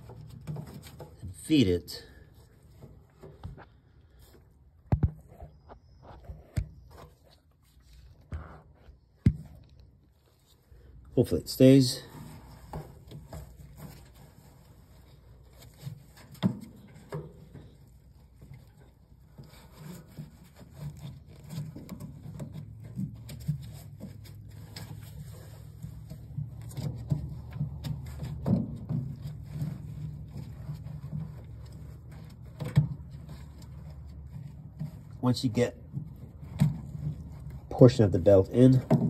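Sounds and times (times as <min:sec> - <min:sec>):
rubber belt rubbing and scraping: 0:00.0 - 0:39.0.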